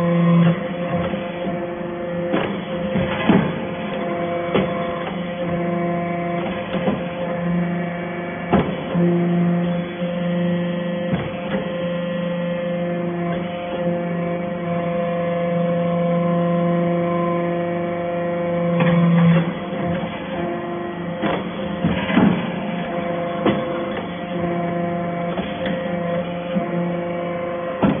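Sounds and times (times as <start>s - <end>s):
hydraulic unit humming: 0.0s - 28.0s.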